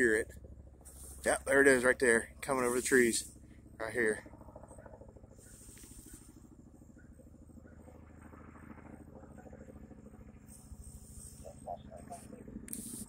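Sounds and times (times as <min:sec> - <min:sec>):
distant helicopter rotor drone: 0:00.0 - 0:13.0.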